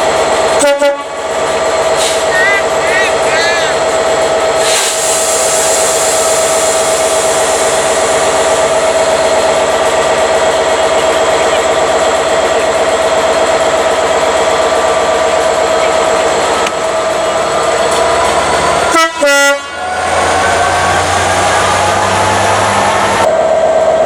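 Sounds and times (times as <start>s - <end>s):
train running close by: 0.0s - 24.0s.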